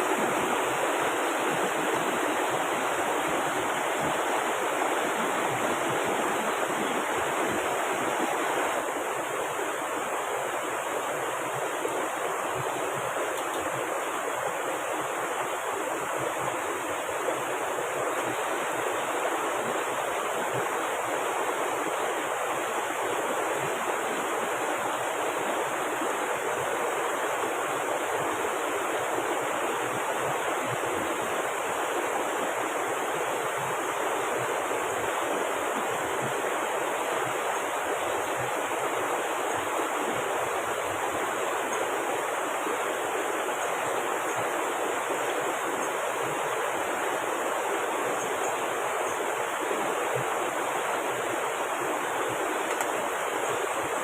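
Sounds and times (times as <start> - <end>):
heavy rain: 0.0 - 54.0
river flowing: 0.0 - 54.0.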